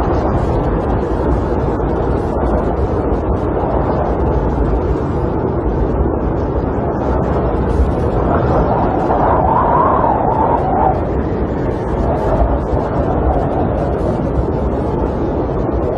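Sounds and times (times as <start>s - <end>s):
snowstorm wind rushing: 0.0s - 15.9s.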